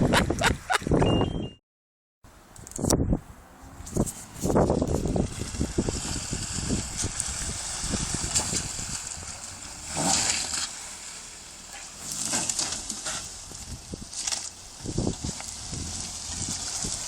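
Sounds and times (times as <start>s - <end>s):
off-road vehicle on dirt track: 2.3s - 17.0s.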